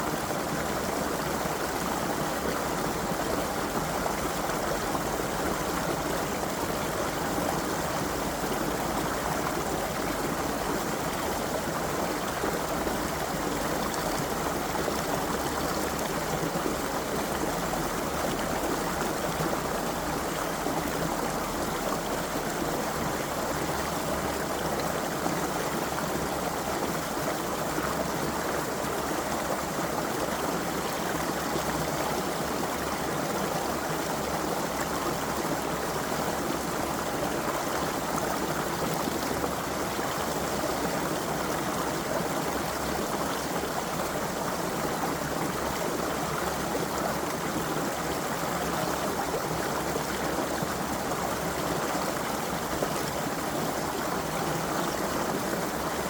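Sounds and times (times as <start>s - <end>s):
creek water burbling over stones: 0.0s - 56.0s.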